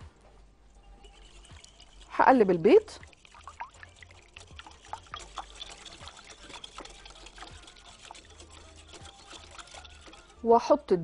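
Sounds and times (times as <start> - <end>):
whisk beating eggs in glass bowl: 0.7 - 10.9.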